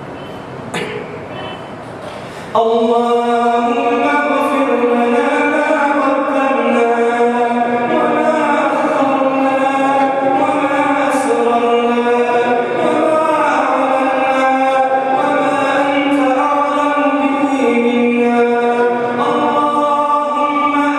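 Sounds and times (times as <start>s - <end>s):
man chanting into a microphone: 2.4s - 20.9s.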